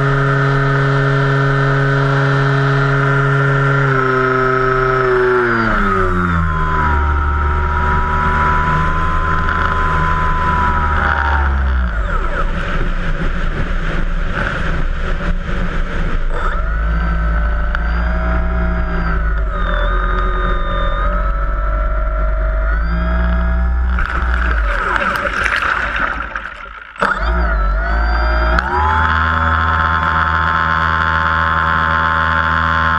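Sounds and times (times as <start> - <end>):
electric motor and propeller whine: 0.0 - 32.9.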